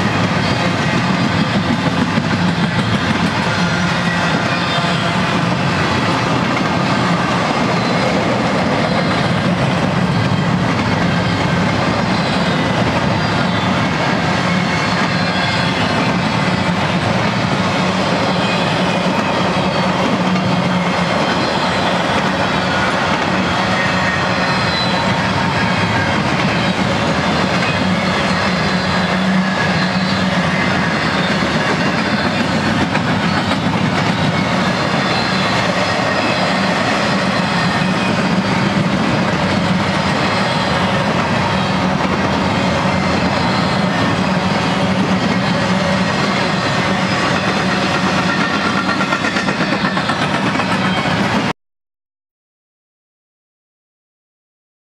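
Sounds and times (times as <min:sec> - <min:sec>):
freight train wheels on rail: 0:00.0 - 0:51.5.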